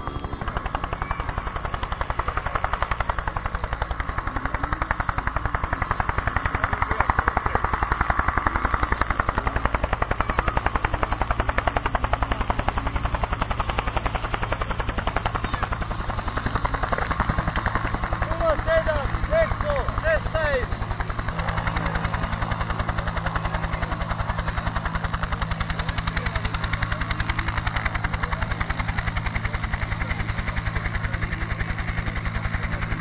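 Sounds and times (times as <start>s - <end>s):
rapid mechanical throbbing: 0.0s - 33.0s.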